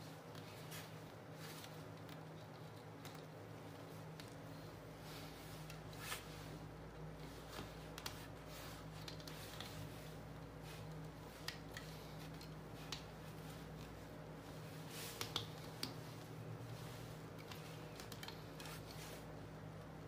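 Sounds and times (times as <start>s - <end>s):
low steady hum: 0.0s - 20.0s
thread rustling and light clicks: 0.2s - 19.4s.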